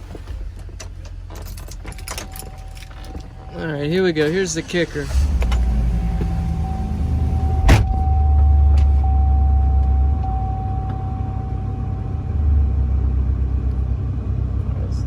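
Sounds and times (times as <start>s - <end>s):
thin steady whine: 0.0s - 13.6s
car engine idling: 0.0s - 15.0s.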